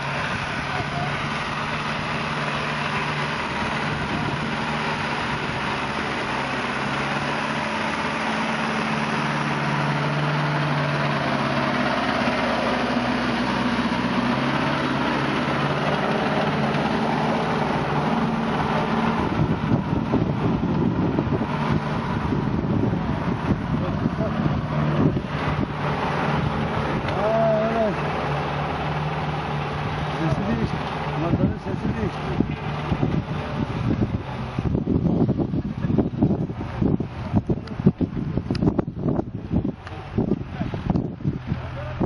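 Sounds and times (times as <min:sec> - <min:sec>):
wind rumbling on microphone: 0:00.0 - 0:27.2, 0:29.7 - 0:42.0
tractor diesel engine under load: 0:00.0 - 0:42.0.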